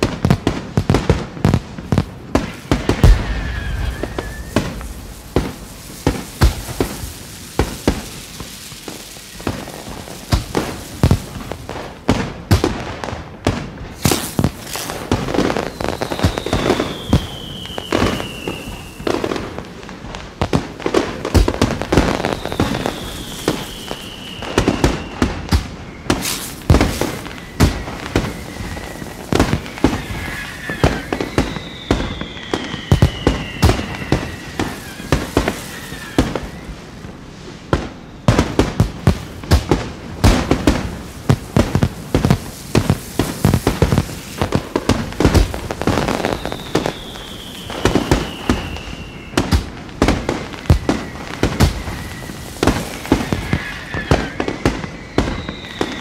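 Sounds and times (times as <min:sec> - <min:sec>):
firework crackle: 0:00.0 - 0:56.0
falling firework whistle: 0:01.0 - 0:56.0
firework shells bursting: 0:01.8 - 0:12.6, 0:13.9 - 0:19.6, 0:20.6 - 0:36.8, 0:38.3 - 0:56.0.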